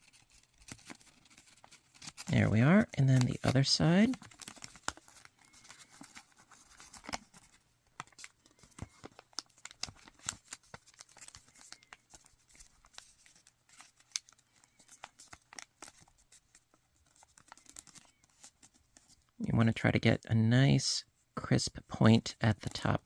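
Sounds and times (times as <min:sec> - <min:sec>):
paper crinkling as folded: 0:00.0 - 0:19.3.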